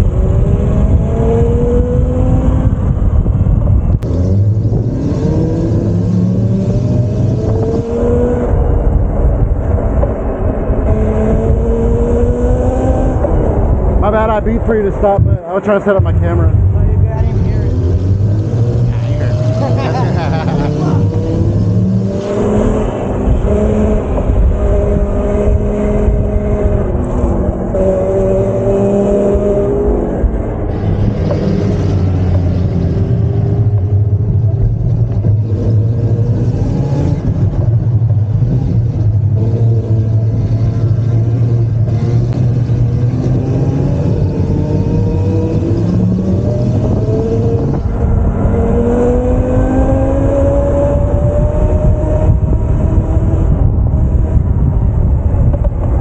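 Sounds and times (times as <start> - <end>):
wind and tyre rumble: 0.0 - 56.0.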